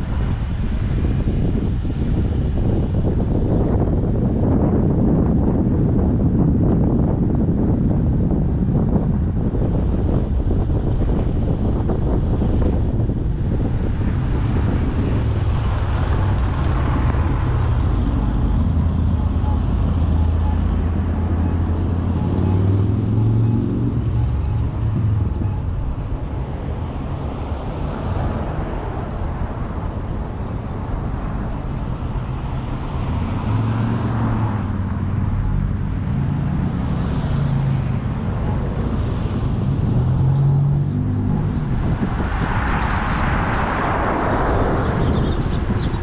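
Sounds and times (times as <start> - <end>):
car engine rumble: 0.0 - 46.0
tyre and traffic noise: 0.0 - 46.0.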